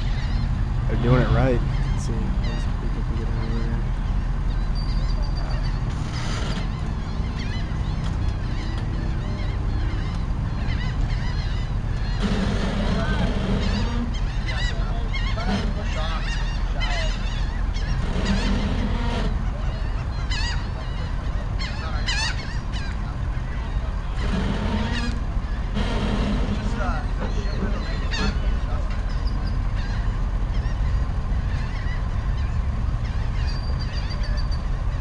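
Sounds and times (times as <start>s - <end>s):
geese honking: 0.0s - 35.0s
steady low rumble: 0.0s - 35.0s.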